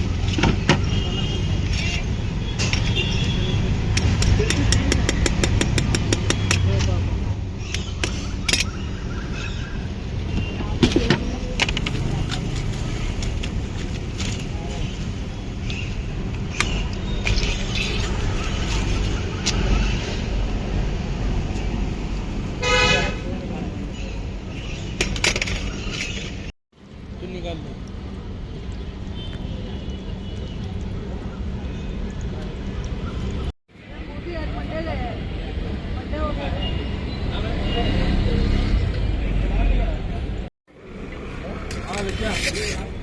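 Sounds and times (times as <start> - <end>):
low rumble of street traffic: 0.0 - 43.0.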